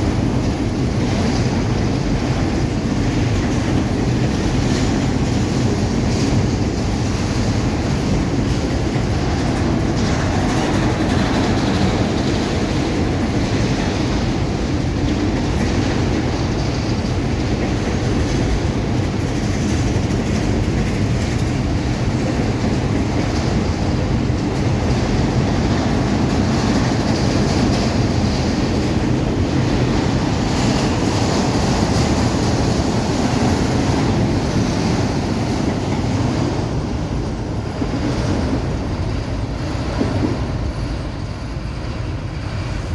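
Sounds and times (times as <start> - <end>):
train wagons rolling on rails: 0.0 - 42.9.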